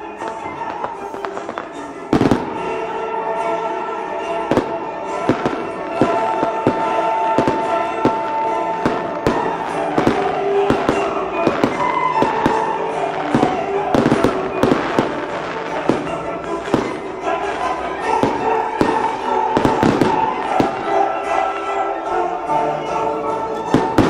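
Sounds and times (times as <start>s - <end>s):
fireworks launching and bursting: 0.0s - 22.2s, 23.6s - 24.0s
music playing: 0.0s - 24.0s.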